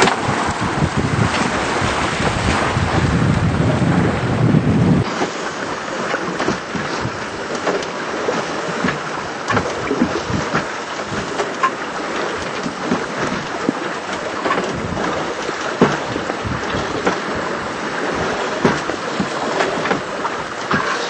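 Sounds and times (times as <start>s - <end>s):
wind buffeting the microphone: 0.0s - 7.6s, 8.2s - 11.4s, 12.4s - 21.0s
water rushing past a hull: 0.0s - 21.0s.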